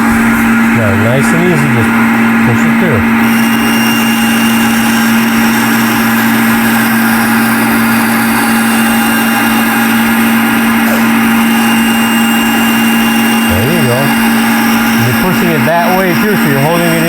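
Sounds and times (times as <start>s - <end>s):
table saw running: 0.0s - 17.0s.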